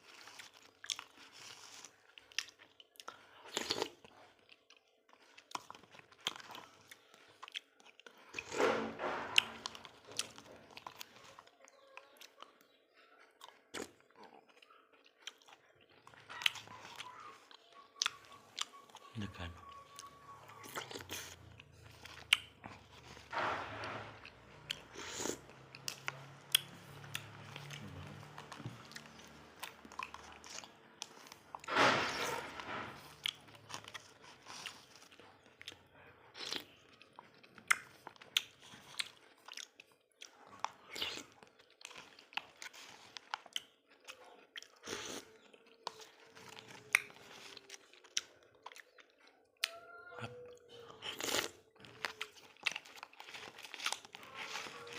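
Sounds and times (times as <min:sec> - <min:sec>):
wet chewing and biting: 0:00.0 - 0:54.9.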